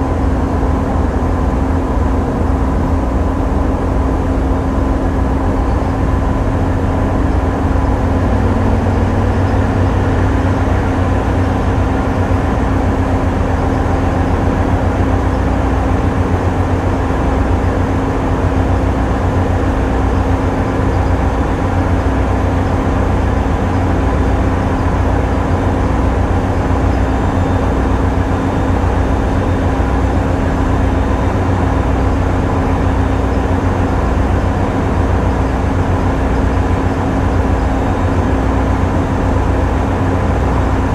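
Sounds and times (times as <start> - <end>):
boat diesel engines droning: 0.0 - 40.9.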